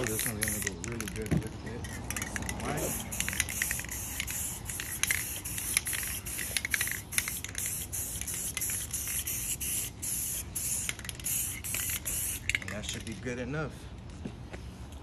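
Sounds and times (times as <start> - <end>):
spray can hissing: 0.0 - 1.2, 1.8 - 12.7.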